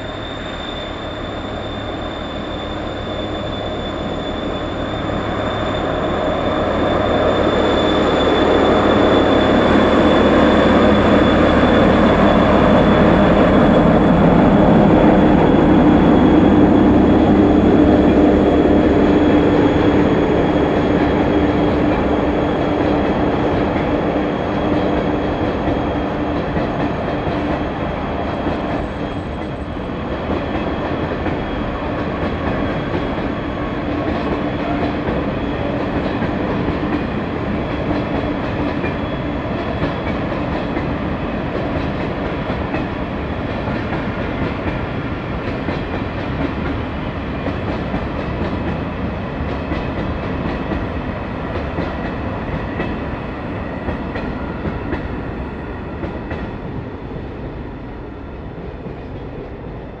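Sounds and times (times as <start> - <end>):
freight train wheels rumbling on rails: 0.0 - 60.0.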